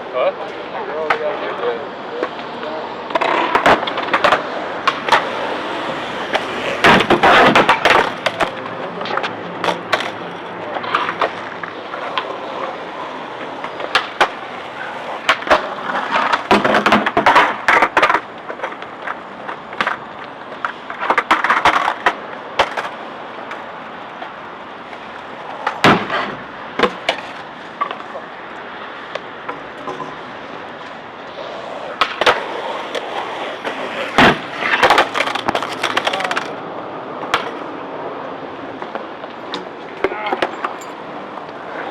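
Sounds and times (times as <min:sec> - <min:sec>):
skateboards rolling and grinding: 0:00.0 - 0:41.9
skateboard decks clacking: 0:00.4 - 0:41.9.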